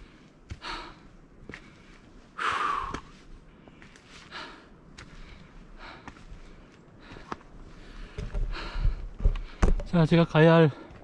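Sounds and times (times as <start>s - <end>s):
person breathing hard: 0.0s - 9.8s
light footsteps: 0.0s - 10.2s.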